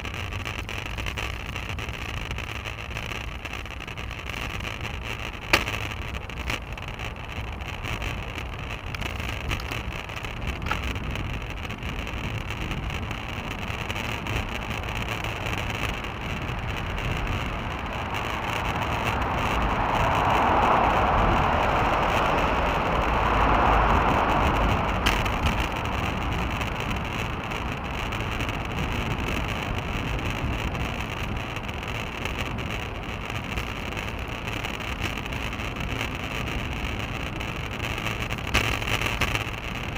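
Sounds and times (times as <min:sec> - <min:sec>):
road rumble: 0:00.0 - 0:39.9
traffic: 0:00.0 - 0:39.9
wind buffeting microphone: 0:03.7 - 0:39.9.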